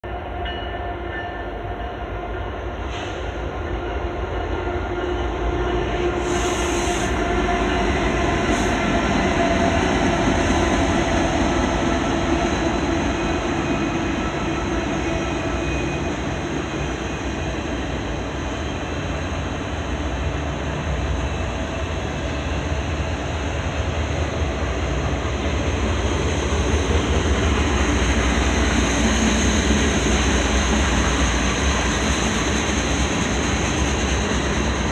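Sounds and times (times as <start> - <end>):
diesel locomotive engines rumbling: 0.0 - 34.9.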